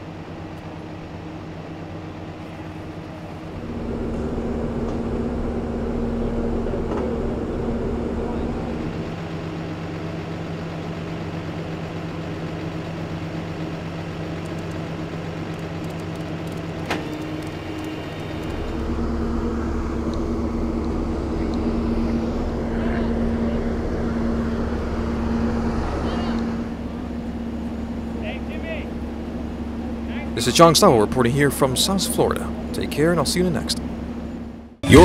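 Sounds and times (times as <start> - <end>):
vehicle engines running: 0.0 - 35.0.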